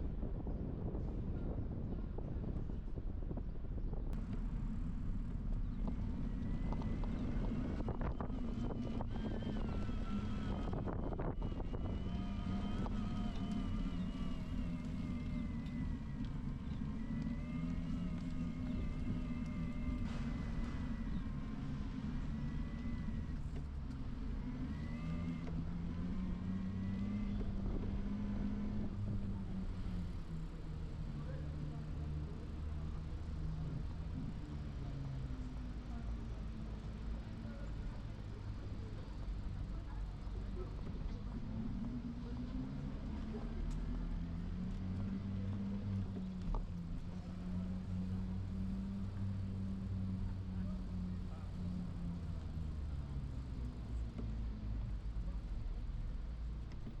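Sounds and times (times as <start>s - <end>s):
vehicle engine humming: 0.9s - 57.0s.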